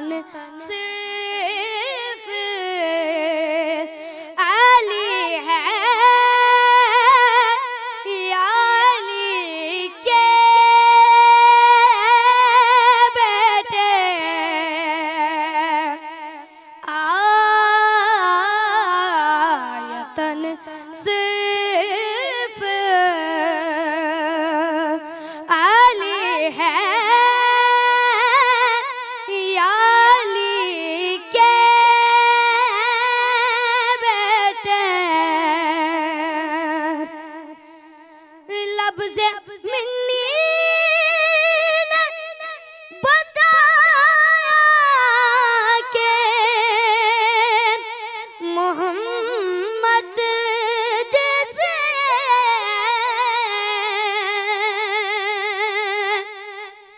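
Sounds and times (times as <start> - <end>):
boy singing into a microphone: 0.0 - 56.9.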